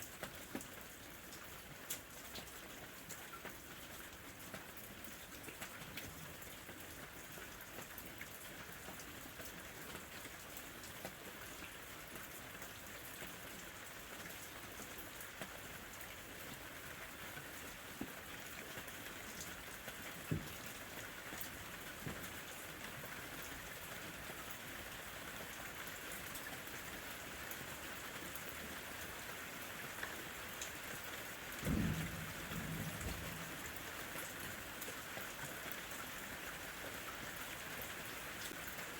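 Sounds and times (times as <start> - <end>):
rain falling: 0.0 - 38.9
raindrops ticking on a surface: 0.0 - 38.9.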